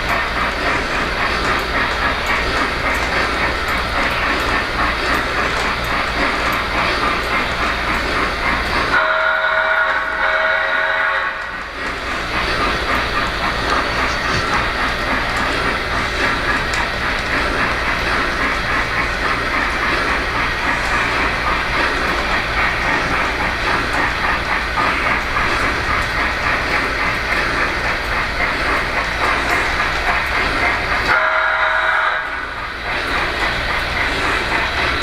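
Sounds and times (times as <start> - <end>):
rhythmic track clicking: 0.0 - 9.0, 11.2 - 31.2, 32.2 - 35.0
model train rolling rumble: 0.0 - 35.0.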